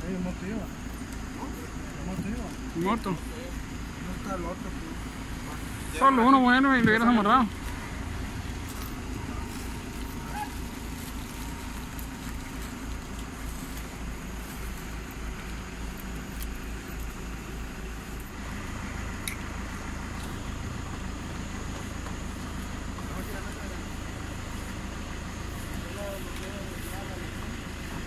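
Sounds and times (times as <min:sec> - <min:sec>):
engine rumbling: 0:00.0 - 0:28.0
road traffic noise: 0:00.0 - 0:28.0.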